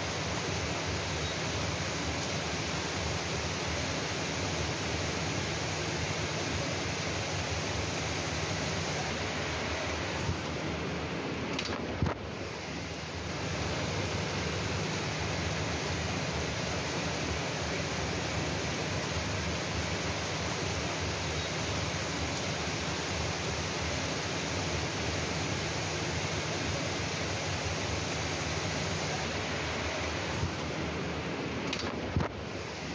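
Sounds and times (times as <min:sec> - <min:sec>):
rain falling: 0:00.0 - 0:32.9.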